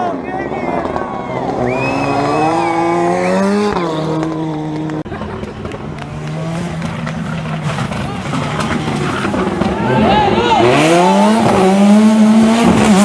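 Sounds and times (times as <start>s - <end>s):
rally car engine at high revs: 0.8s - 13.0s.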